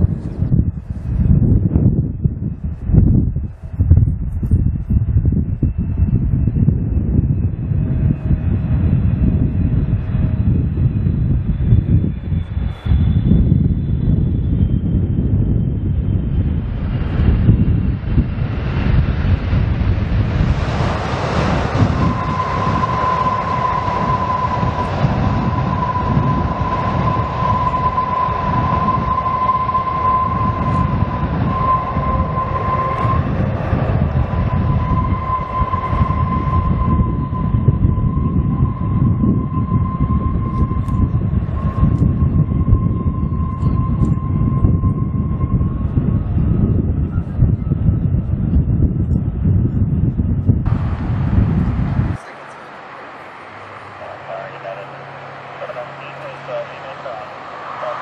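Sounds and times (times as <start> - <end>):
high engine whine: 0.0 - 58.0
jet engines low rumble: 0.0 - 58.0.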